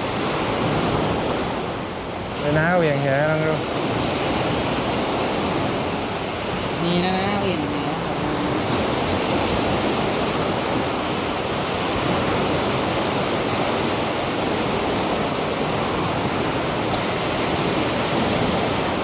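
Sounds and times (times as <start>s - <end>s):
sea water rushing along shore: 0.0s - 19.0s.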